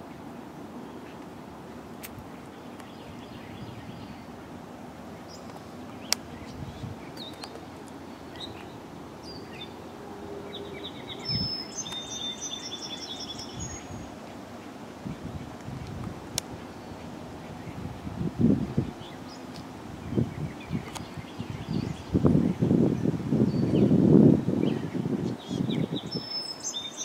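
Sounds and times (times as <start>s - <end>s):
outdoor background hiss: 0.0s - 27.0s
songbirds chirping and trilling: 0.0s - 27.0s.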